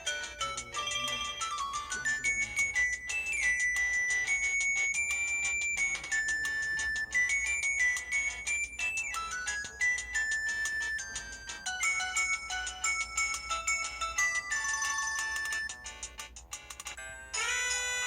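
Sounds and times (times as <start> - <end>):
mobile phone ringtone: 0.0 - 18.0.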